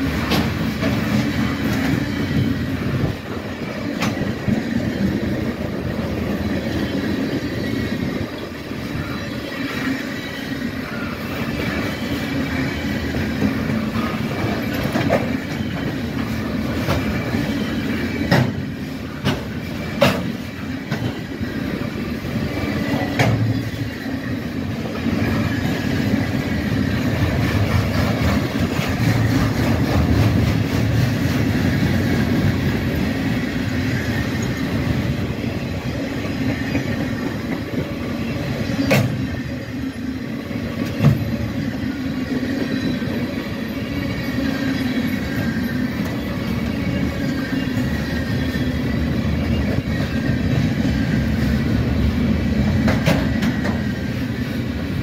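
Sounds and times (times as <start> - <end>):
freight train wheels clattering on rails: 0.0 - 55.0.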